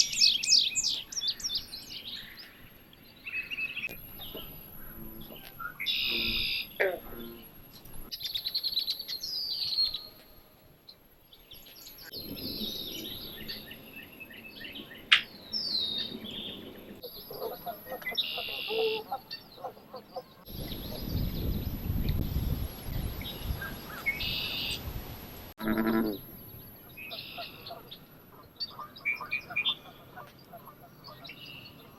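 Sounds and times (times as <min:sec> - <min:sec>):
birds chirping and trilling: 0:00.0 - 0:24.8, 0:25.6 - 0:31.9.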